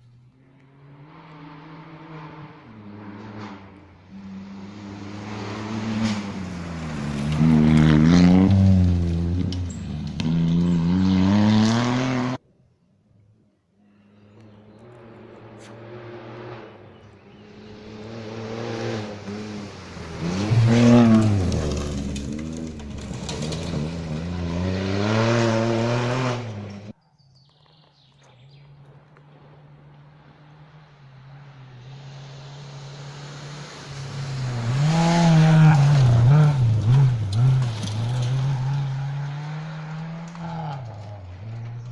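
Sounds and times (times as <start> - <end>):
rally car engine at full throttle: 0.4 - 12.4, 14.4 - 27.0, 29.0 - 41.9.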